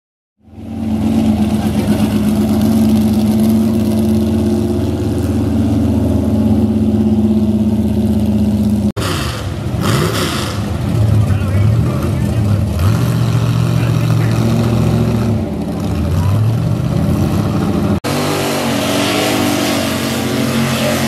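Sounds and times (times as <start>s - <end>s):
truck engine running loudly: 0.4s - 21.0s.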